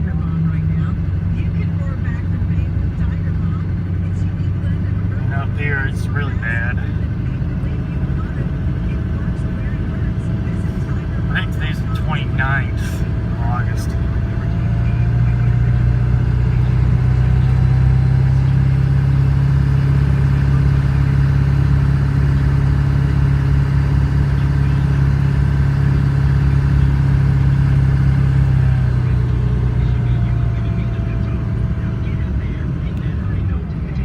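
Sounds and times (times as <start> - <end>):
vehicle engine and road drone: 0.0 - 34.0.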